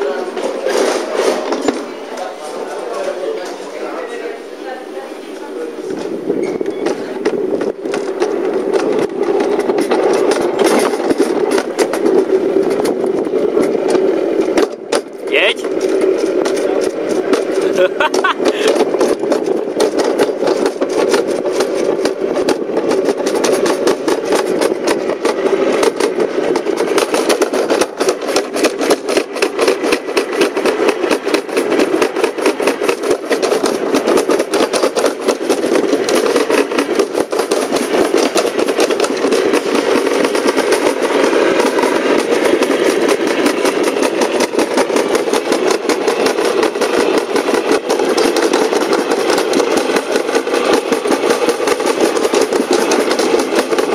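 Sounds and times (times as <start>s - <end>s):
sled rattling along metal track: 0.0s - 53.9s.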